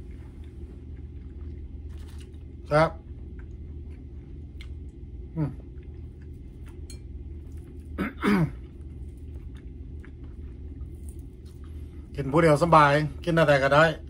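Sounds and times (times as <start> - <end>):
man chewing: 0.0 - 12.2
low room hum: 0.0 - 14.0.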